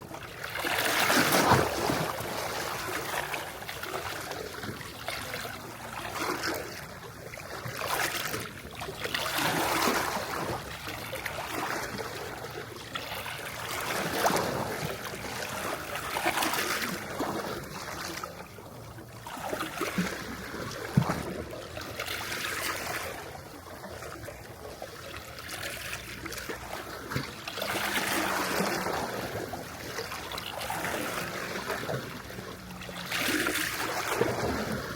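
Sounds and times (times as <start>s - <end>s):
small waves washing onto shore: 0.0s - 34.9s.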